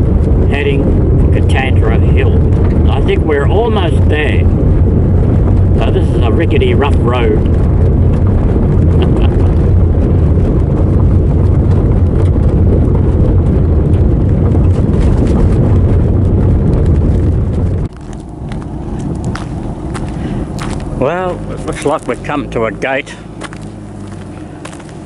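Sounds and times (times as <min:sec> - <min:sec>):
car road and engine noise: 0:00.0 - 0:25.0.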